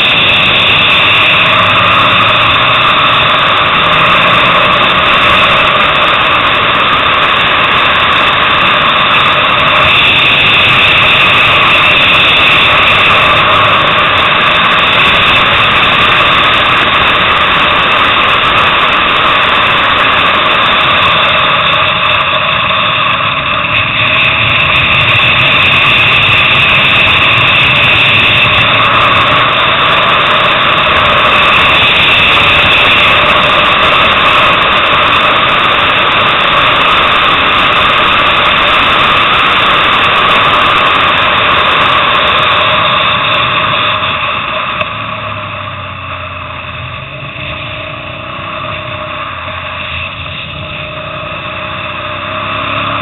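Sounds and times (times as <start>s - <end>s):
motorcycle engine at high revs: 0.0s - 53.0s.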